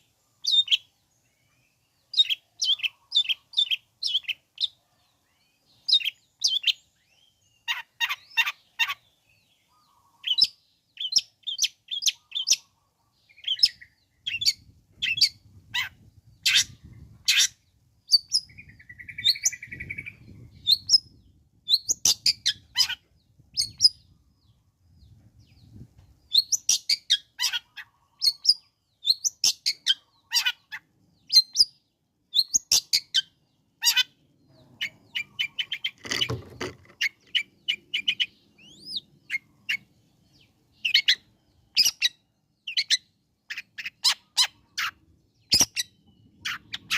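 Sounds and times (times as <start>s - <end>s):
bird chattering song: 0.0s - 46.9s.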